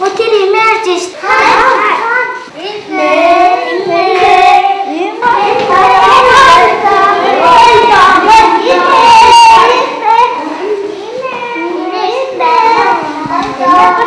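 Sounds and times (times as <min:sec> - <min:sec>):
children singing together: 0:01.1 - 0:14.0.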